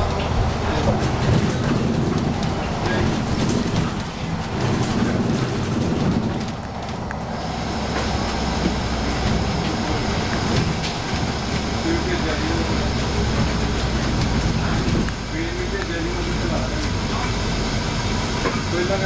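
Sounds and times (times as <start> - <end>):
body rattles and clicks: 0.0 - 17.4
bus engine rumble: 0.0 - 19.0.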